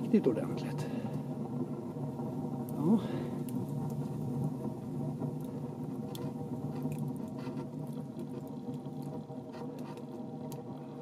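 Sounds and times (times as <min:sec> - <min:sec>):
fire crackling and ticking: 0:00.0 - 0:11.0
stove fire drone: 0:00.0 - 0:11.0.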